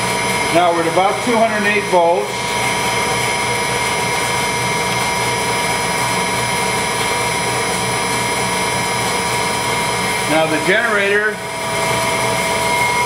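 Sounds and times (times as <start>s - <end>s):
generator and motor whining: 0.0s - 13.0s.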